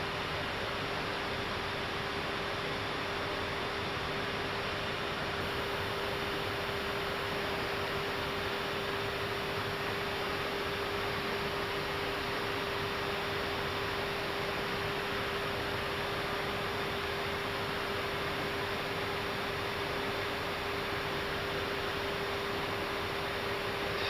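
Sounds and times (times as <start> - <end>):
constant mid-pitched hum: 0.0 - 24.0.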